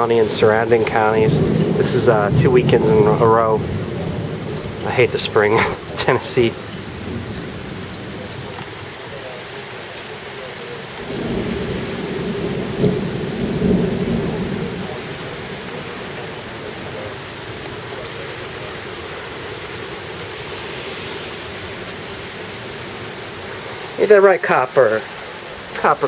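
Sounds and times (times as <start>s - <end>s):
thunder rumbling: 0.0s - 9.4s, 10.4s - 26.0s
heavy rain: 0.0s - 26.0s.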